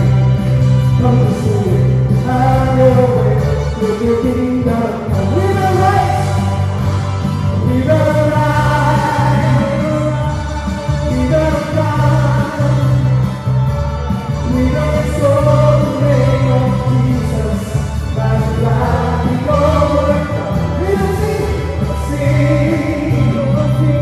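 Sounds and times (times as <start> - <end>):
live worship band playing: 0.0 - 24.0
man singing into microphone: 0.0 - 24.0.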